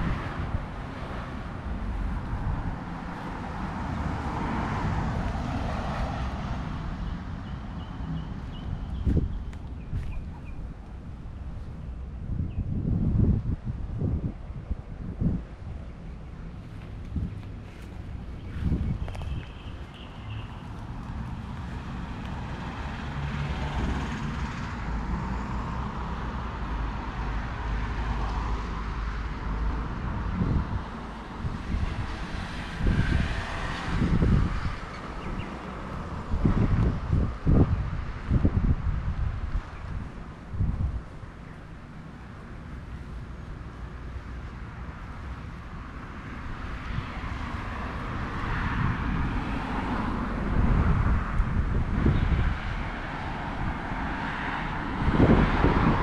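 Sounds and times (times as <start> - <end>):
wind buffeting microphone: 0.0 - 43.8, 44.6 - 56.0
car tyre and engine noise: 0.0 - 56.0
low traffic rumble: 0.0 - 56.0.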